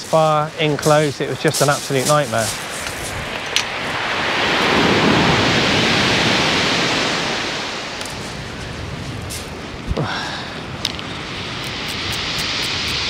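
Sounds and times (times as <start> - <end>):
wave breaking on shingle beach: 0.2 - 13.0.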